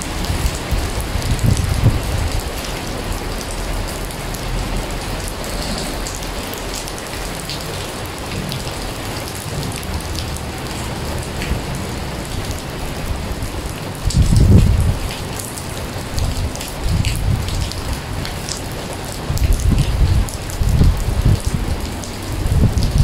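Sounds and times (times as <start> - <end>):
heavy rain splashing into water: 0.0 - 23.0.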